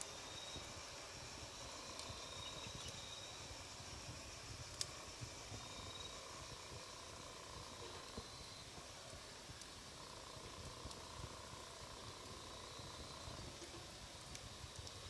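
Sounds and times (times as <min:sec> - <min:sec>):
campfire burning: 0:00.0 - 0:15.0.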